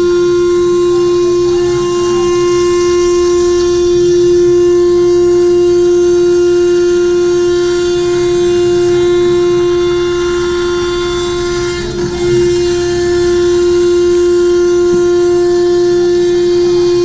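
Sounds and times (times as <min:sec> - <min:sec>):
end mill cutting nylon: 0:00.0 - 0:17.0
router spindle whine: 0:00.0 - 0:17.0.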